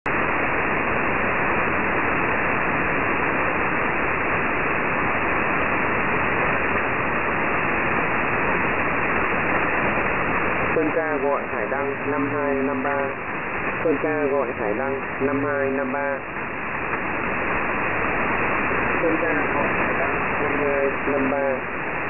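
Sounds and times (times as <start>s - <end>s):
muffled shortwave radio hiss: 0.1s - 22.0s.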